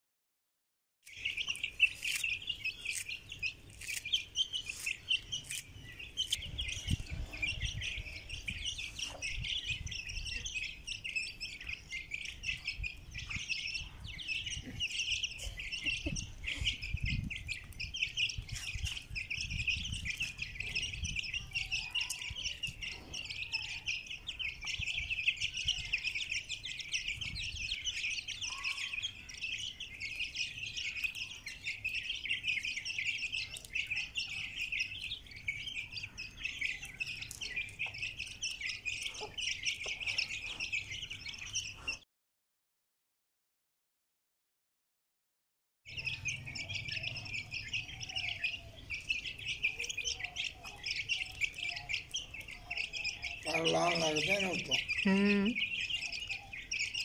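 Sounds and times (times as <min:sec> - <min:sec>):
chicks peeping: 0:01.0 - 0:42.0, 0:45.9 - 0:57.0.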